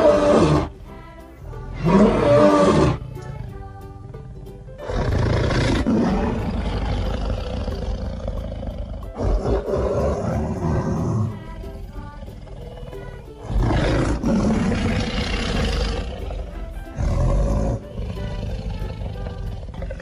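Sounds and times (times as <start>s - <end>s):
lion roaring: 0.0s - 0.7s, 1.8s - 3.0s, 4.8s - 11.4s, 12.3s - 20.0s
background music: 0.0s - 20.0s.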